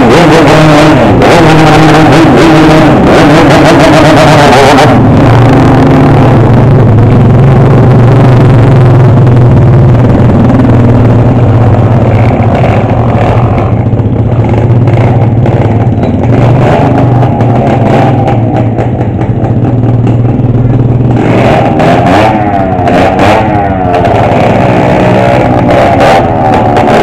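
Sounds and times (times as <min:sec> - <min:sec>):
vehicle engines droning: 0:00.0 - 0:27.0.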